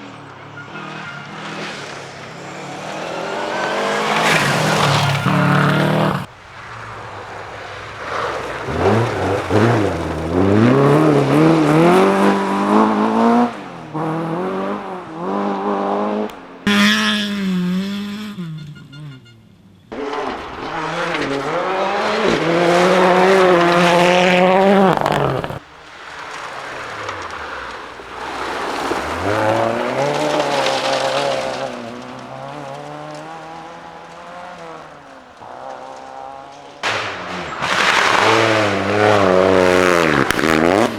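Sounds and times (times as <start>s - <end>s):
rally cars accelerating hard: 0.0s - 40.9s.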